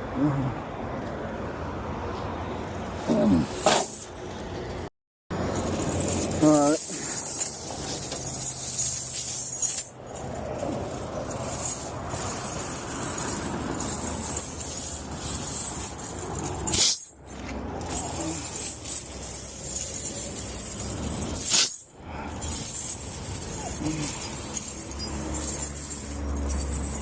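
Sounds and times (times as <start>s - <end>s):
steel chains clinking: 3.0s - 27.0s.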